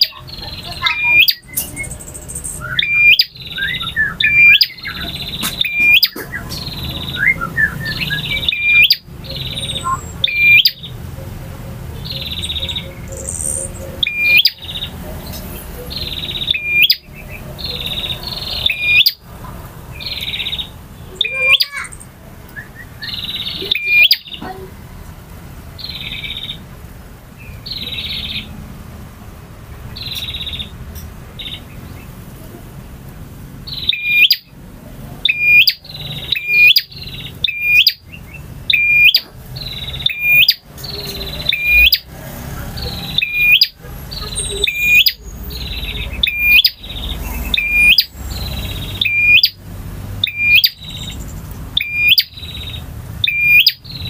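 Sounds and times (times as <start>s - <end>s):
prinia singing buzzy chirps: 0.0s - 26.7s, 27.3s - 54.0s.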